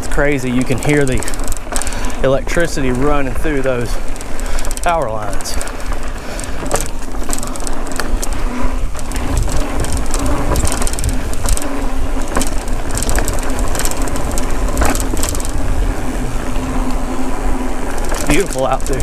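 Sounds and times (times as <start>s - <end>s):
bike clicks and rattles: 0.0s - 19.0s
bike tyres rumbling on dirt: 0.0s - 19.0s
faint power line hum: 0.0s - 19.0s
wind on microphone: 0.0s - 19.0s.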